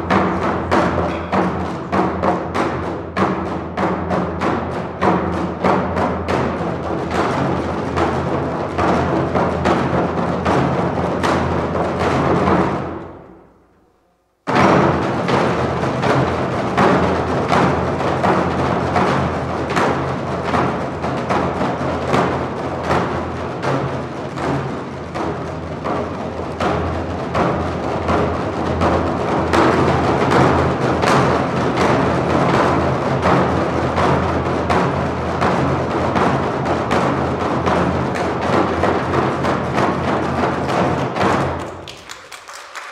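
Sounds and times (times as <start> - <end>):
drums struck in steady beat: 0.0 - 13.6, 14.4 - 42.9.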